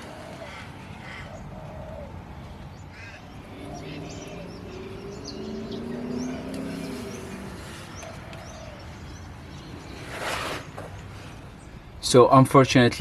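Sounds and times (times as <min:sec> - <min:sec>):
small birds chirping: 0:00.0 - 0:12.2.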